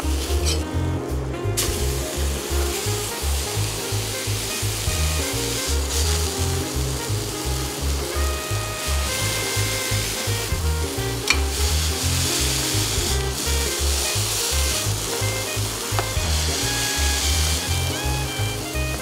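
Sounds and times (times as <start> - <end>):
background music with bass line: 0.0 - 19.0
patty sizzling in a skillet: 1.6 - 19.0.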